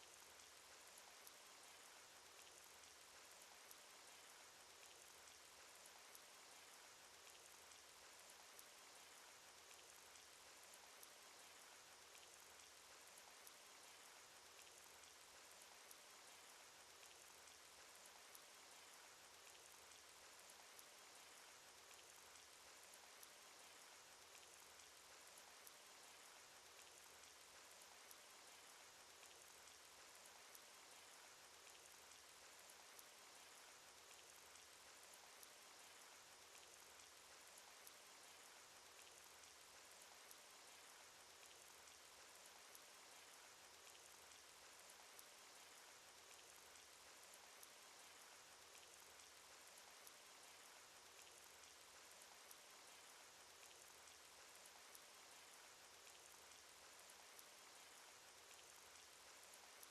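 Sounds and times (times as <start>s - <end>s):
raindrop ticks: 0.0s - 59.9s.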